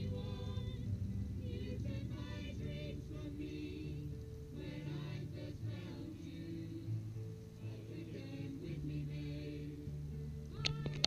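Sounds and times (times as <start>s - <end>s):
group singing a carol: 0.0s - 11.0s.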